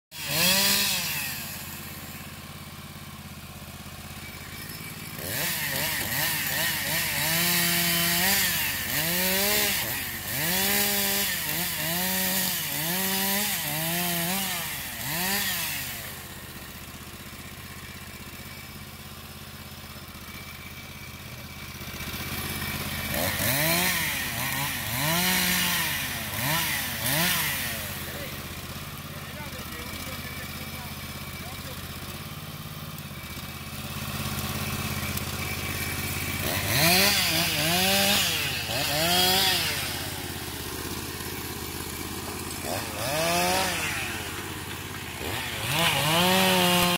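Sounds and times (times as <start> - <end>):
tractor engine revving: 0.1 - 46.9.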